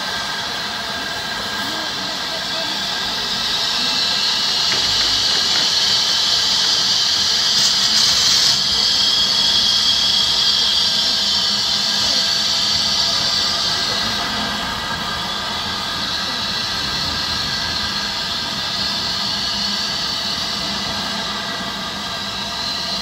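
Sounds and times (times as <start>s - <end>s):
steam locomotive hissing: 0.0s - 23.0s.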